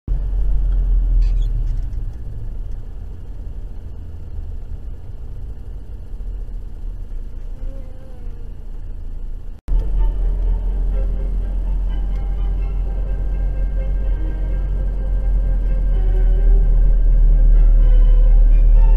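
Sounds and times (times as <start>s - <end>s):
car driving low rumble: 0.1s - 18.9s.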